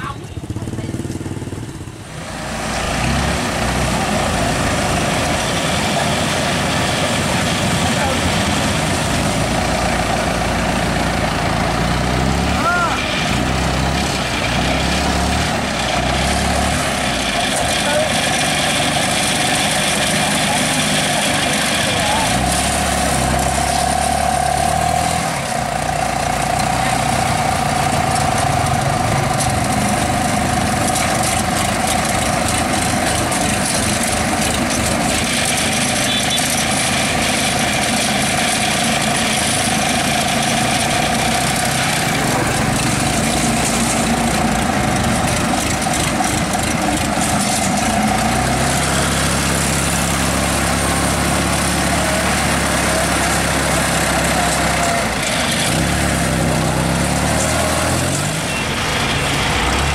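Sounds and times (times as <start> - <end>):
tracked vehicle engine running: 0.0 - 59.9.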